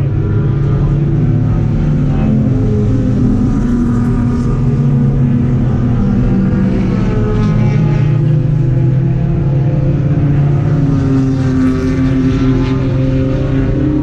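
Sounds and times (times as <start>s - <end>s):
race car engine drone: 0.0s - 14.0s.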